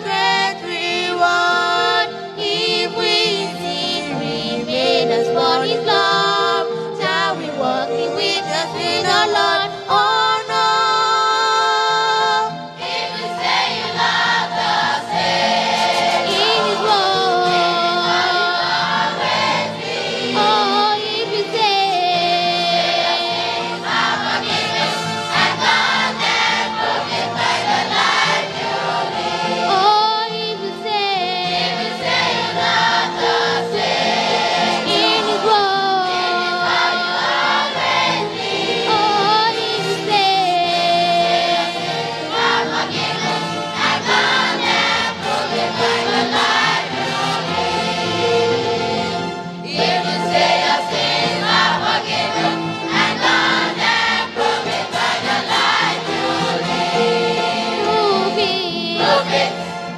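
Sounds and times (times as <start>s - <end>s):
children's choir singing: 0.0s - 59.9s
girls singing a hymn duet: 0.0s - 59.9s.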